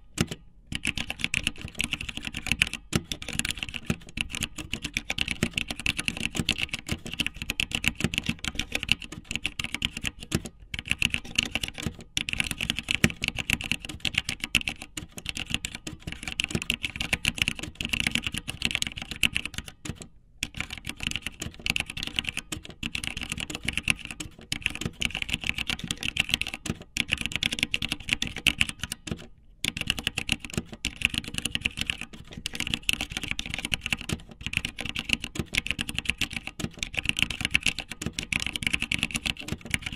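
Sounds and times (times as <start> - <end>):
rapid clicking and tapping: 0.0 - 39.9.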